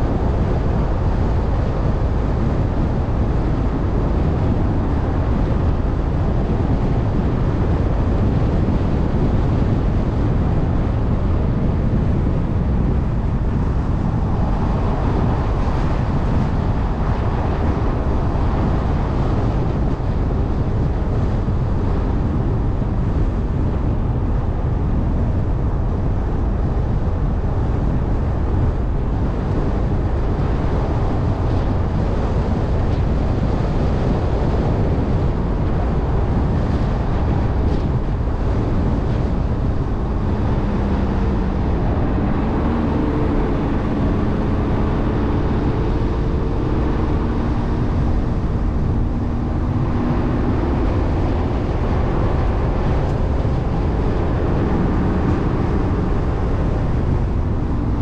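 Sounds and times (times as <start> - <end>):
tyres and engine rumbling: 0.0 - 58.0
wind buffeting microphone: 0.0 - 58.0.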